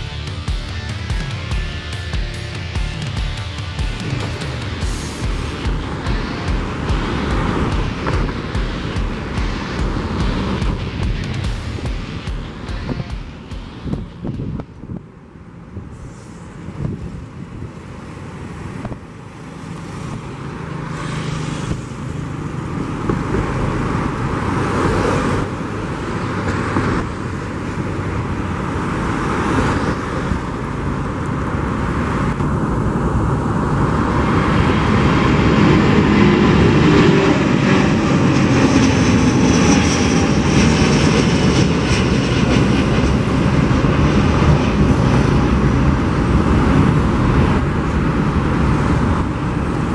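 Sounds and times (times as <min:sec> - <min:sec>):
high engine whine: 0:00.0 - 0:49.9
jet airliner taking off: 0:02.4 - 0:49.9.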